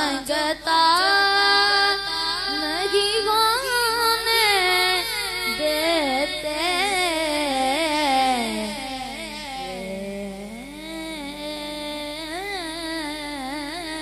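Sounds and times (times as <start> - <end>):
boy singing into a microphone: 0.0 - 14.0.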